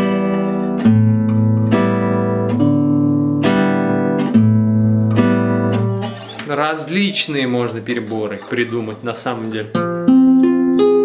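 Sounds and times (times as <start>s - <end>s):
classical guitar fingerpicked: 0.0s - 11.0s.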